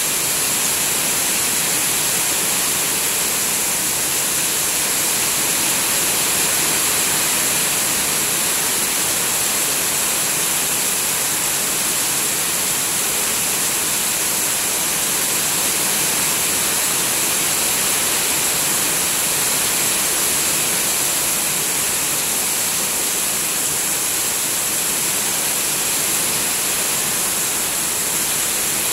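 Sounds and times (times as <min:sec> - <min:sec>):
heavy rain on pond and plants: 0:00.0 - 0:28.9.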